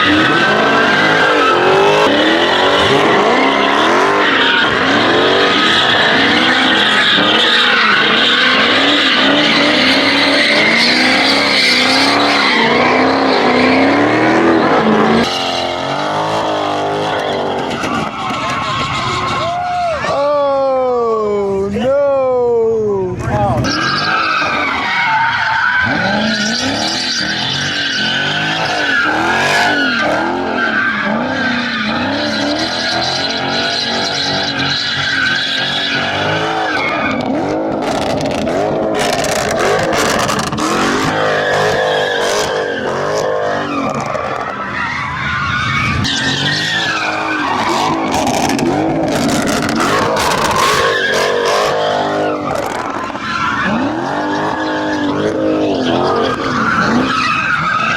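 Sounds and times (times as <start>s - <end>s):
car engine revving: 0.0s - 19.5s, 23.2s - 57.9s
car tyres squealing: 0.0s - 21.0s, 23.2s - 57.9s.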